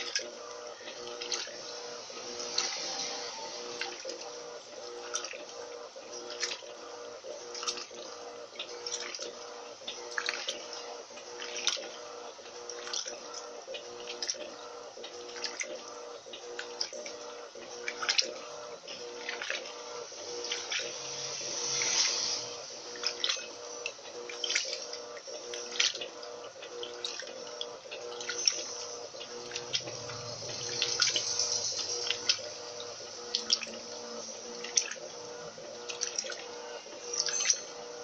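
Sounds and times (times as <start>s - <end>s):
washing machine motor hum: 0.0s - 38.0s
water splashing and sloshing: 0.0s - 38.0s.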